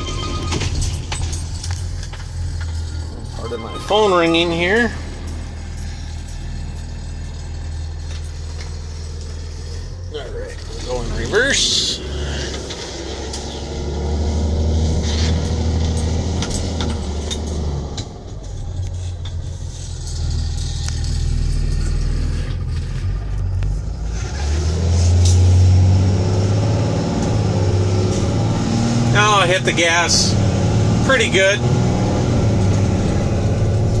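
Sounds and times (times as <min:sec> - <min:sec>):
truck diesel engine droning: 0:00.0 - 0:34.0.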